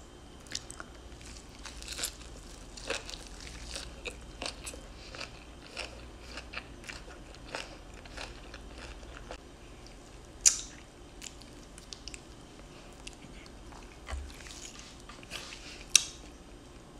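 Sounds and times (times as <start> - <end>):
chewing and biting food: 0.4 - 16.3.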